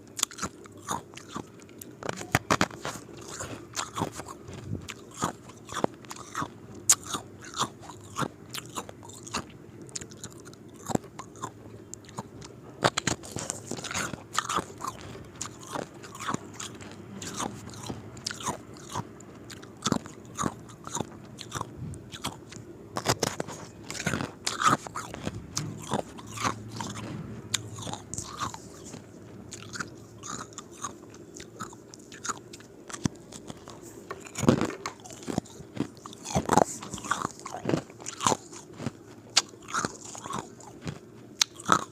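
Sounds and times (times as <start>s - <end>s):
ice cubes being chewed: 0.1s - 41.9s.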